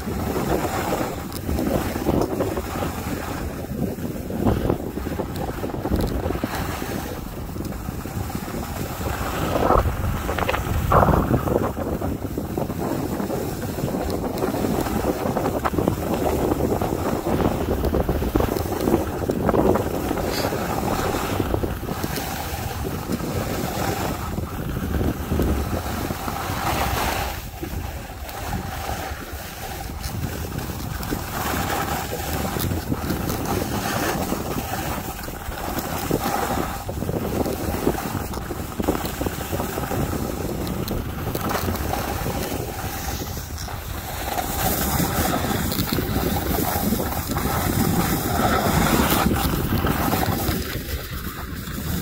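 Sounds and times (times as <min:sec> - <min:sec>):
skis carving on snow: 0:00.0 - 0:52.0
wind rushing over microphone: 0:00.0 - 0:52.0.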